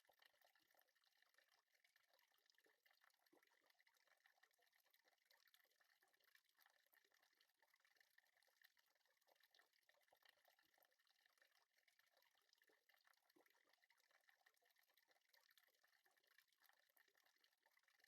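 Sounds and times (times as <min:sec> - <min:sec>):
light steady crackle: 0:00.0 - 0:18.0.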